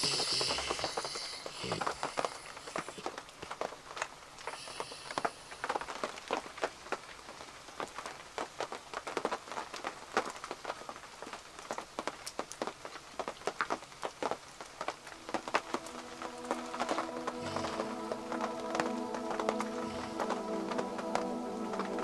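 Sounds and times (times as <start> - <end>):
heavy rain on a tent: 0.0 - 22.0.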